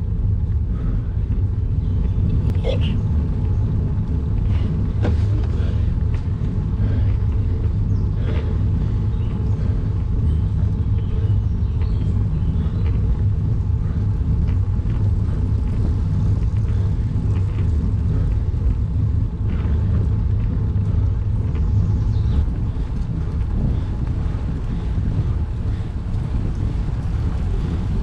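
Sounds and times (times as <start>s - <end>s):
wind buffeting and road rumble: 0.0s - 28.0s.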